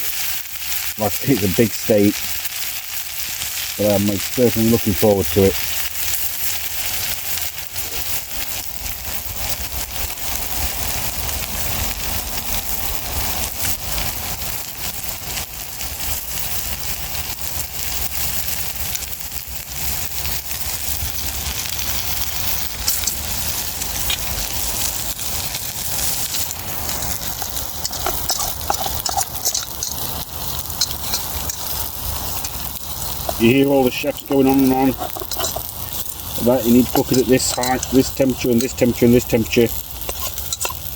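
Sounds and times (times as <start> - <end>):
steak sizzling in a pan: 0.0 - 40.9.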